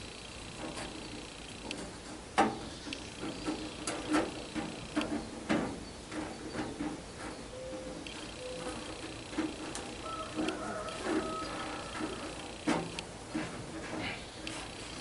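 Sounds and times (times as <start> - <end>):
clicks and knocks on a baler: 0.0 - 15.0.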